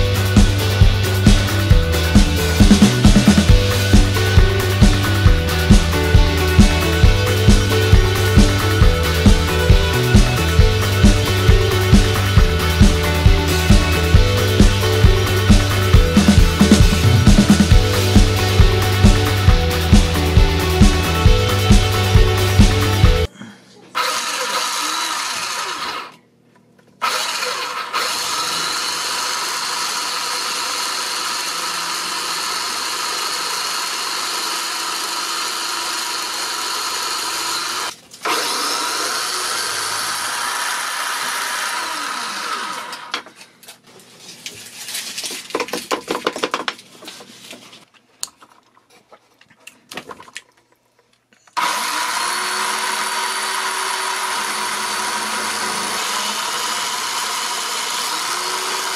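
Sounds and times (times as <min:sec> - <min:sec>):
drill motor whining: 0:00.0 - 0:23.3, 0:24.0 - 0:26.2, 0:27.0 - 0:43.3, 0:51.6 - 0:58.9.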